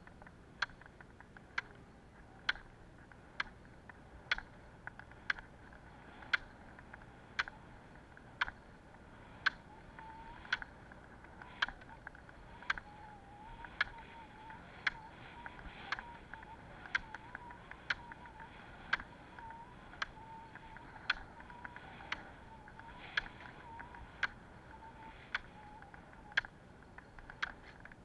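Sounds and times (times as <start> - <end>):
hum of rolling skis: 0.0 - 28.0
ski pole tips clicking on asphalt: 0.0 - 28.0.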